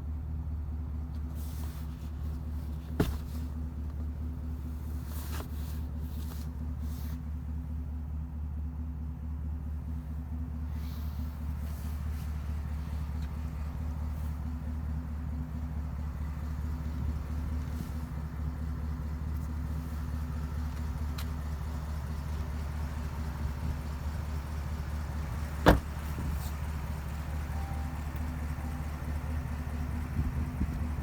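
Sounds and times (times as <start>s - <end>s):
pickup engine rumble: 0.0s - 31.0s.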